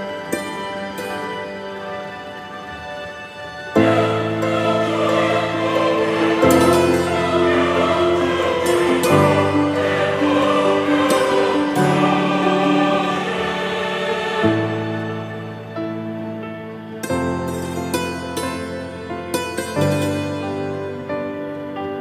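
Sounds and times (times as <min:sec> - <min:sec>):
slow held chords: 0:00.0 - 0:22.0.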